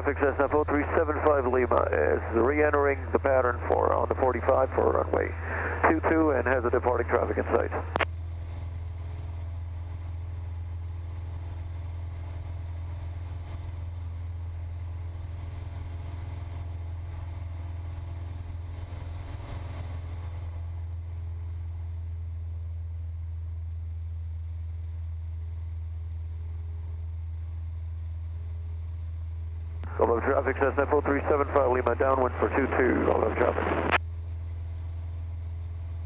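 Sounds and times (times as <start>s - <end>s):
propeller plane engine droning: 0.0s - 36.0s.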